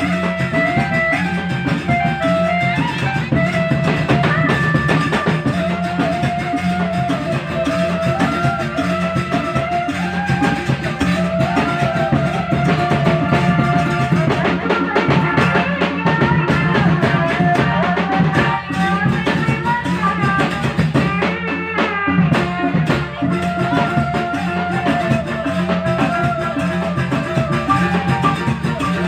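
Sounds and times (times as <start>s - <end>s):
bending melodic lead line: 0.0s - 29.0s
drum kit and bass beat: 0.0s - 29.0s.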